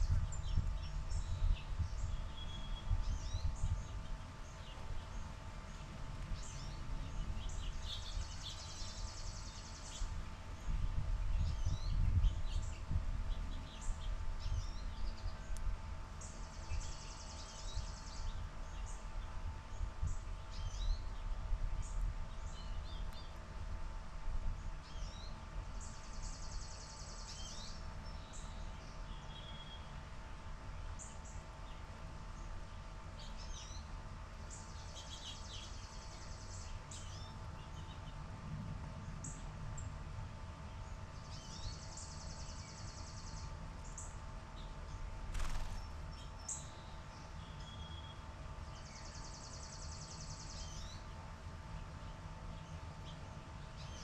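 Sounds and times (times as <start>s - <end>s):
sparrow trilling song: 0.0s - 23.4s, 24.7s - 30.0s, 30.7s - 38.2s, 40.6s - 54.0s.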